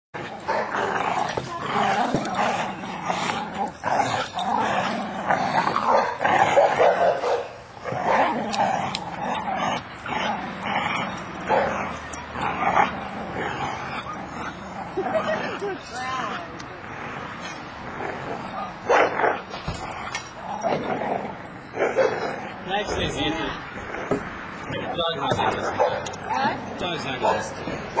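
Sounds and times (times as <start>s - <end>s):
dogs growling and barking: 0.2s - 28.0s.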